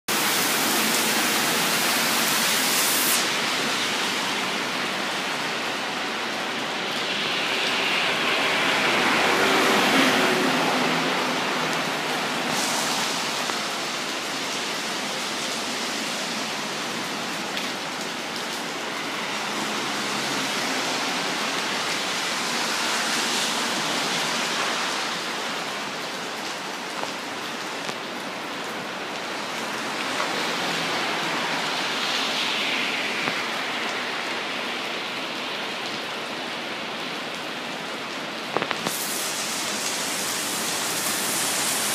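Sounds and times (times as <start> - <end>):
heavy rain on pavement: 0.1 - 41.9
traffic swishing on wet road: 0.1 - 41.9.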